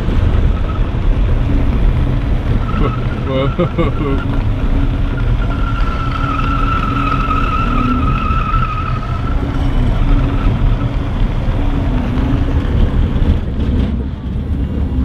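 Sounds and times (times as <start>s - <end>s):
sliding wheels squealing: 0.0s - 14.0s
road rumble: 0.0s - 15.0s
small car engine running: 0.0s - 15.0s.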